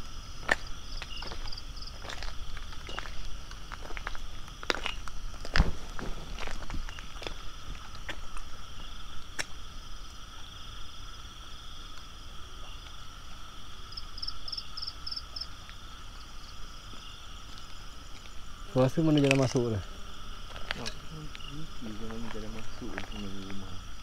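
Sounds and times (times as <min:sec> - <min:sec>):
frogs and insects calling: 0:00.0 - 0:24.0.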